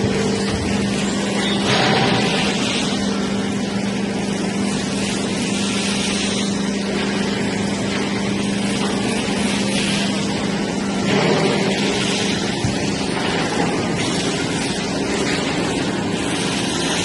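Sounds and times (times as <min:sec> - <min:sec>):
plate rolling machine hum: 0:00.0 - 0:17.0.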